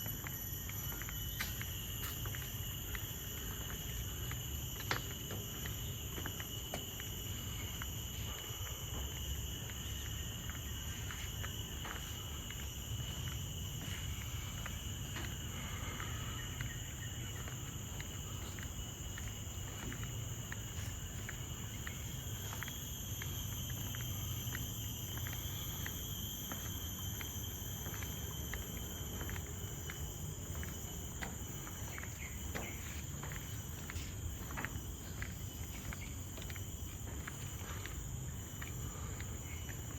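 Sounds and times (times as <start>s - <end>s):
forest insects buzzing: 0.0s - 39.9s.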